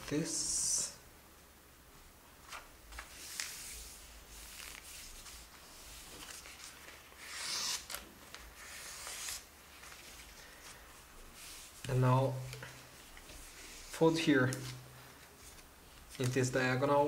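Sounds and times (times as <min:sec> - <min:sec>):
paper rustling and crinkling: 0:02.4 - 0:16.6.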